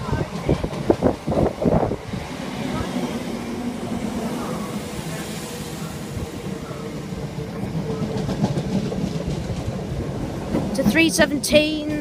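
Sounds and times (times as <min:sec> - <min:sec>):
electric train hum: 0:00.0 - 0:12.0
wheels rumbling on rails: 0:00.0 - 0:12.0.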